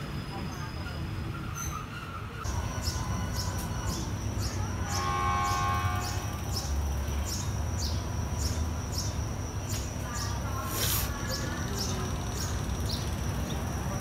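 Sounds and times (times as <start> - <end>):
idling train rumble: 0.0 - 14.0
small birds chirping: 0.3 - 14.0.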